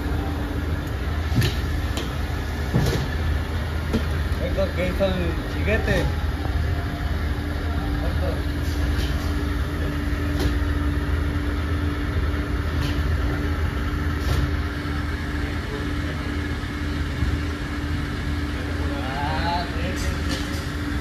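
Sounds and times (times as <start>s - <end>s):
constant hum: 0.0s - 21.0s.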